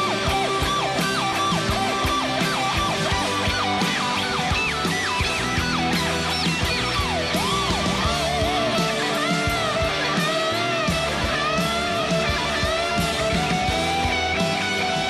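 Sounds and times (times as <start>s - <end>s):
electric guitar lead bending notes: 0.0s - 15.0s
steady drum beat: 0.0s - 15.0s
strummed guitar: 0.0s - 15.0s.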